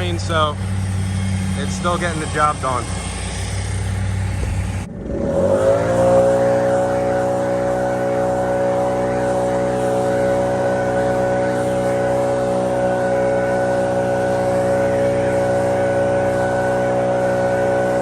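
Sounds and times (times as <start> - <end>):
lawn mower engine running: 0.0 - 18.0
thin steady whine: 0.0 - 18.0.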